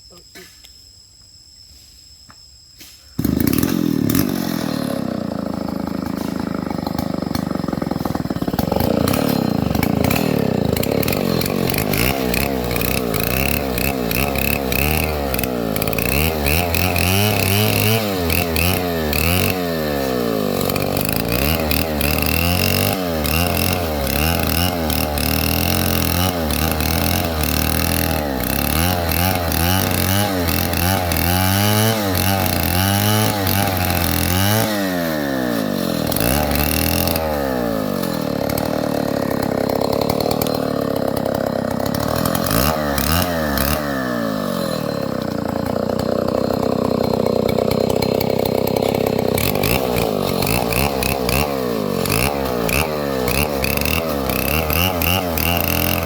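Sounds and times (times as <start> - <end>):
chainsaw revving: 3.2 - 56.0.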